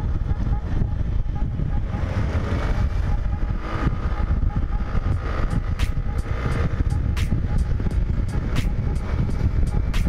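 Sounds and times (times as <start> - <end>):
motorcycle engine running: 0.0 - 10.0
wind rushing over microphone: 0.0 - 10.0.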